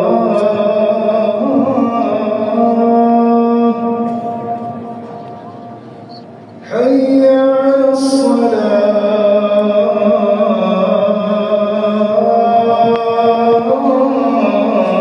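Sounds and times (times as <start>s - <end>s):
man chanting over loudspeakers: 0.0s - 15.0s.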